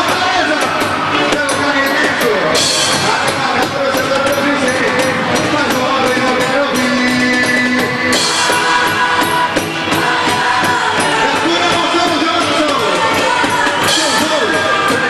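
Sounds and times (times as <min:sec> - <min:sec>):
steady percussion beat: 0:00.0 - 0:15.0
voices singing: 0:00.0 - 0:15.0.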